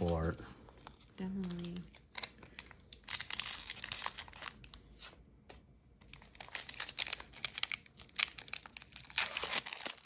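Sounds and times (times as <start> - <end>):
foil wrapper crinkling and tearing: 0.0 - 4.9, 6.0 - 10.0.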